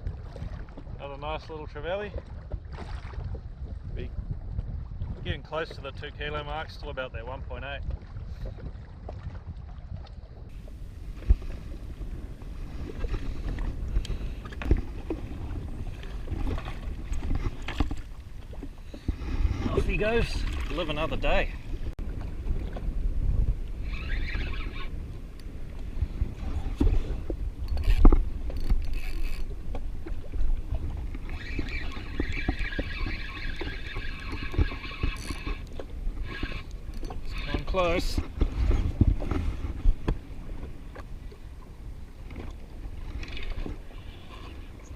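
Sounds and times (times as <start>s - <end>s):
water against jet ski hull: 0.0s - 44.9s
wind buffeting microphone: 0.0s - 44.9s.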